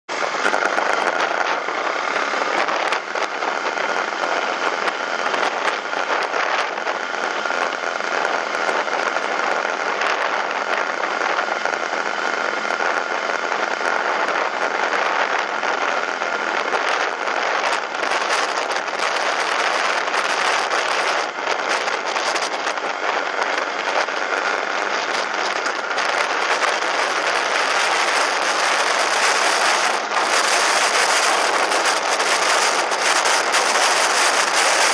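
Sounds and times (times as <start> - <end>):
motorcycle engine: 0.1 - 34.9
wind noise: 0.1 - 34.9
faint constant whine: 0.2 - 34.9.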